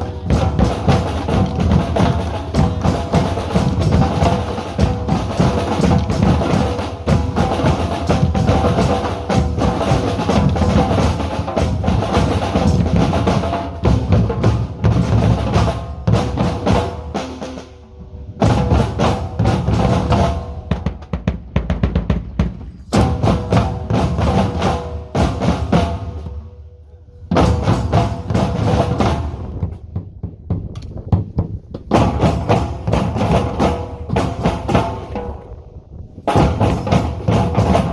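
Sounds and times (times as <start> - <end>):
bass and snare drumming: 0.0 - 17.8, 18.4 - 26.4, 27.3 - 37.9.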